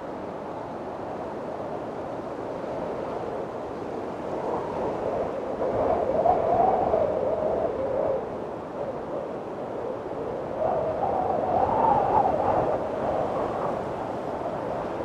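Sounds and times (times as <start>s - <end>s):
strong wind blowing: 2.5s - 15.0s.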